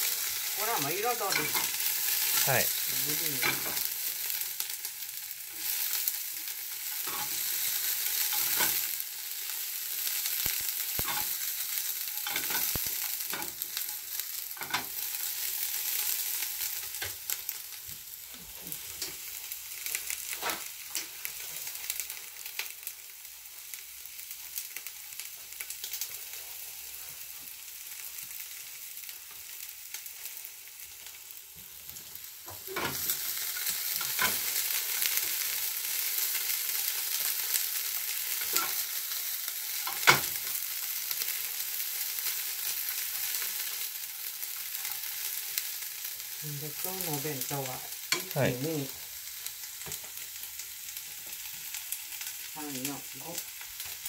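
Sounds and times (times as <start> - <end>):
peppers sizzling in a pan: 0.0 - 54.0.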